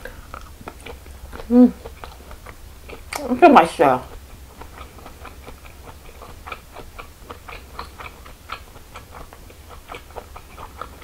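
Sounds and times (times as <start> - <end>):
wet chewing clicks: 0.0 - 11.0.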